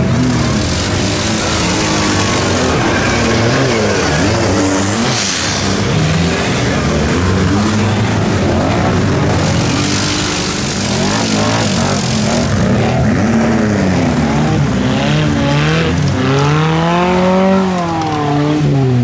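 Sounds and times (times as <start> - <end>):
off-road engines revving: 0.0 - 19.0.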